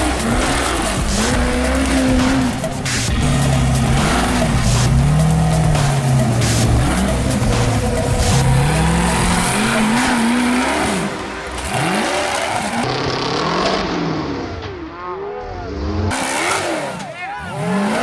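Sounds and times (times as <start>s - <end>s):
truck engine revving: 0.0s - 14.7s, 16.0s - 18.0s
tires on rocks: 0.0s - 15.0s.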